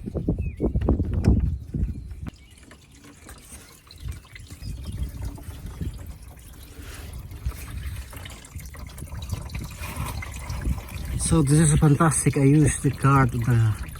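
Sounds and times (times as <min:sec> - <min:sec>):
coolant trickling into container: 0:00.0 - 0:13.9.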